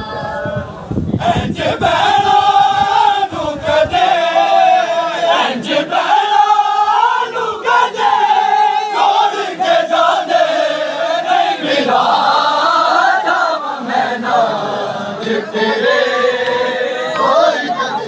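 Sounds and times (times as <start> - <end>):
crowd of men chanting: 1.1 - 18.0.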